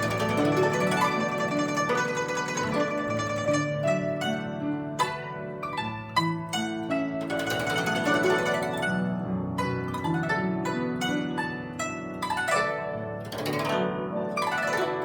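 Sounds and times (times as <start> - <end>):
guzheng plucked notes: 0.0 - 15.0.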